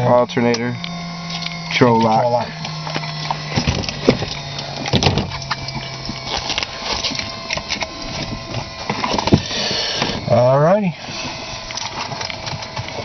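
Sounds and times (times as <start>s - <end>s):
faint steady whine: 0.0s - 13.0s
low hum: 0.0s - 13.0s.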